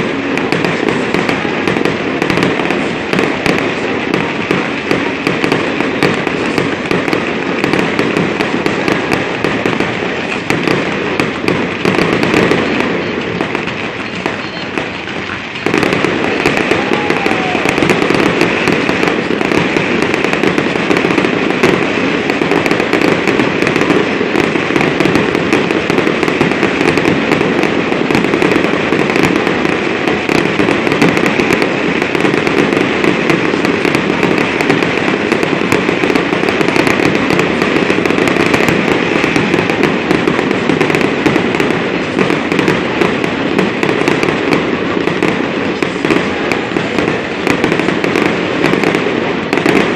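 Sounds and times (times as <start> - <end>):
fireworks crackling and popping: 0.0 - 49.9.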